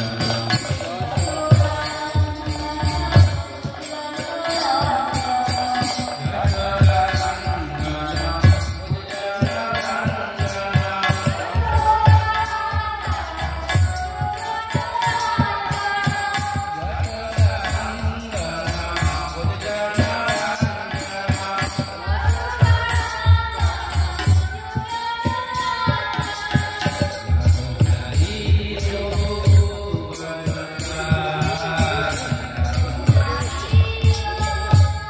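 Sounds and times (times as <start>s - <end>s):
drum beating: 0.0s - 35.0s
hand cymbals clashing: 0.0s - 35.0s
woman singing a chant: 0.0s - 35.0s.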